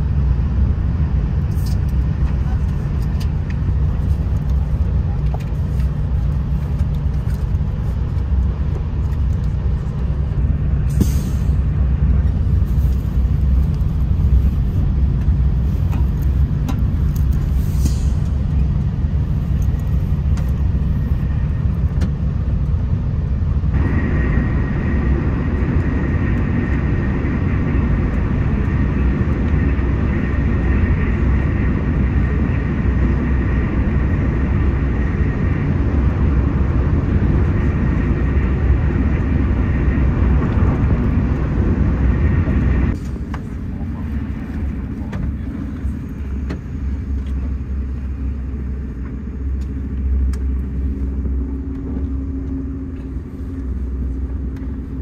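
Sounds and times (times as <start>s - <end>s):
train rumble inside passenger car: 0.0s - 55.0s.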